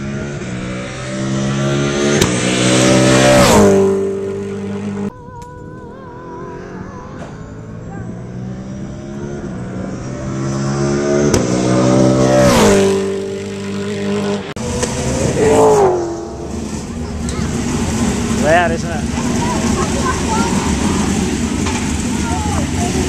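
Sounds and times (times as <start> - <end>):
race car engine passing: 0.0 - 5.1, 5.7 - 23.0.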